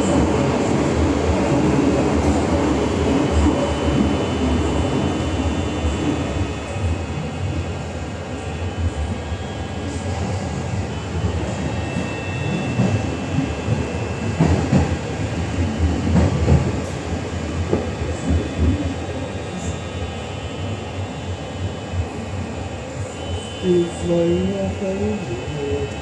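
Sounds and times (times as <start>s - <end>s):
train rumbling along track: 0.0s - 26.0s.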